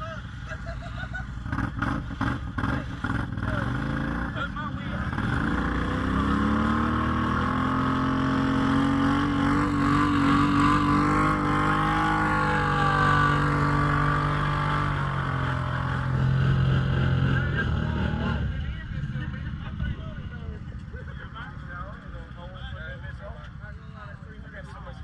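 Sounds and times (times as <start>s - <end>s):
vehicle engine under load: 0.0s - 22.5s.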